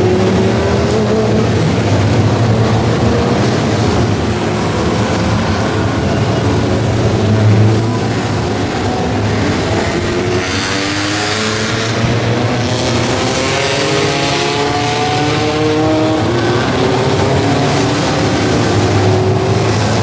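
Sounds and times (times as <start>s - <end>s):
race car engine revving: 0.0s - 20.0s.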